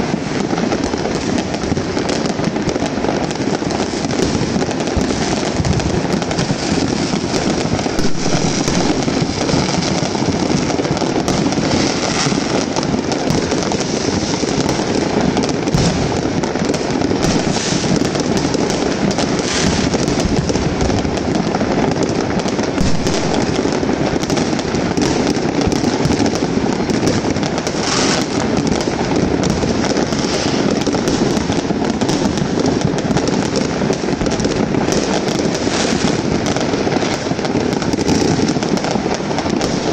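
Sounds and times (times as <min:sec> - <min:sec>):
fireworks crackling and banging: 0:00.0 - 0:39.9
loud firework bursts: 0:00.0 - 0:39.9.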